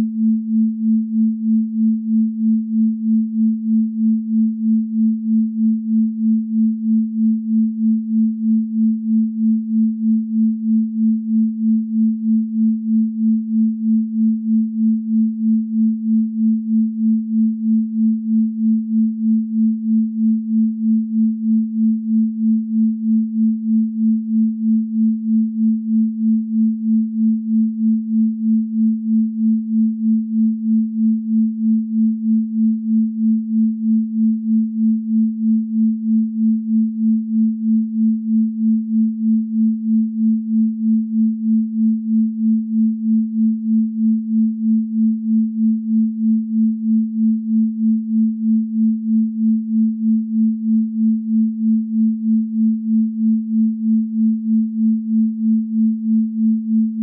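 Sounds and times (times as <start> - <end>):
pulsing sine tone: 0.0 - 57.0.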